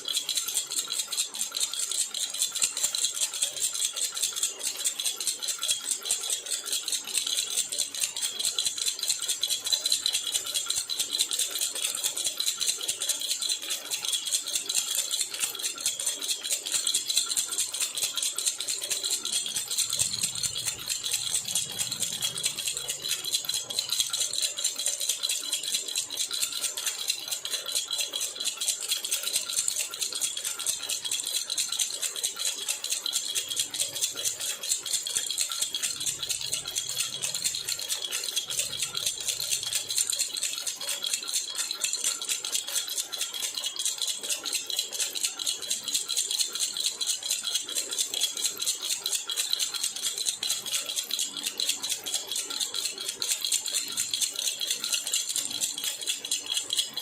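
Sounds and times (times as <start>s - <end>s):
baby rattle shaken: 9.6s - 31.0s, 31.6s - 57.0s.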